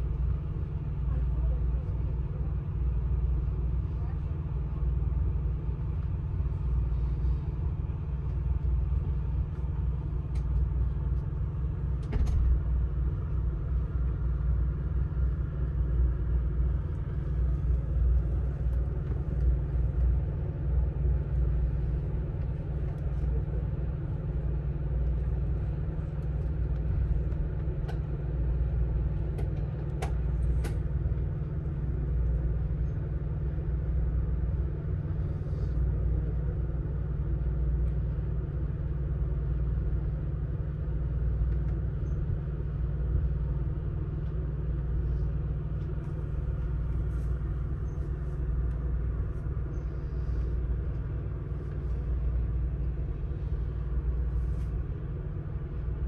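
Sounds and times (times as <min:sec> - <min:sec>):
train car rumbling on rails: 0:00.0 - 0:56.0.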